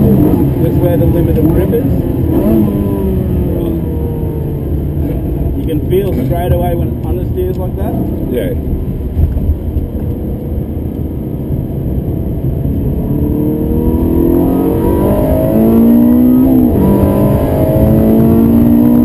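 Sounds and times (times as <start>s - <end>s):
car engine accelerating: 0.0s - 19.0s
road rumble: 0.0s - 19.0s.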